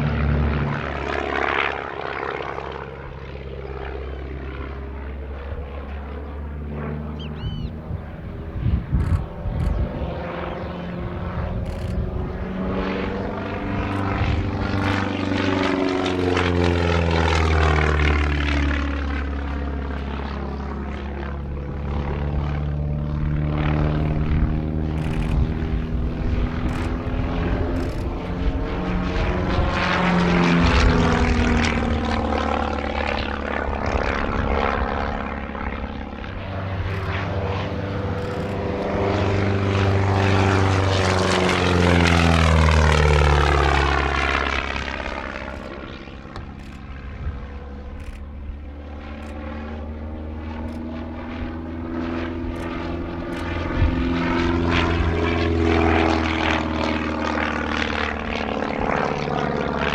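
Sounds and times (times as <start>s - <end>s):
propeller aircraft passing: 0.0s - 59.9s.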